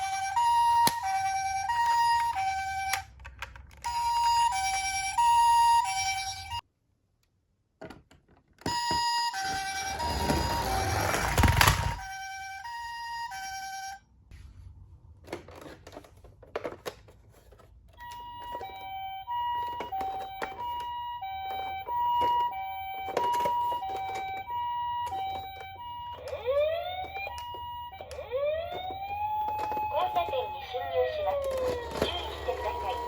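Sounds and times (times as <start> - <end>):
toy ambulance electronic siren: 0.0 - 6.6, 8.6 - 14.0, 18.0 - 33.0.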